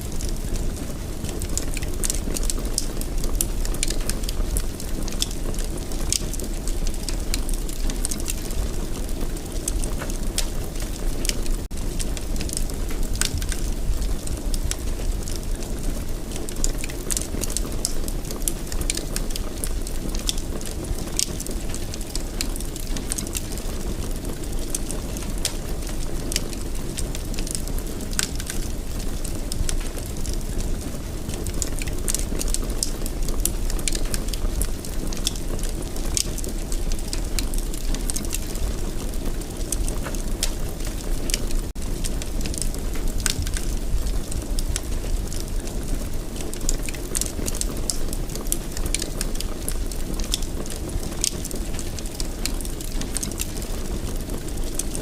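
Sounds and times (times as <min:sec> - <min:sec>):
fire popping and crackling: 0:00.0 - 0:55.0
wood fire burning: 0:00.0 - 0:55.0.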